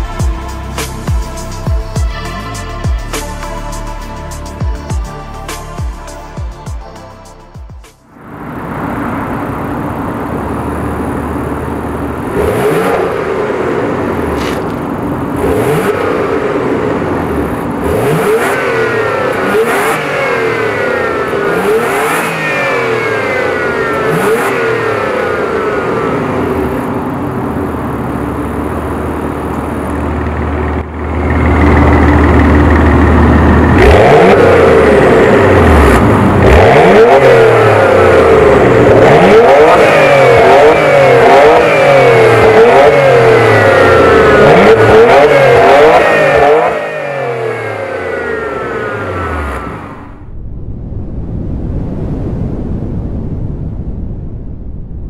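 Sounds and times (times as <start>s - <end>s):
car engine idling: 0.0s - 51.2s
car engine revving: 7.4s - 53.0s.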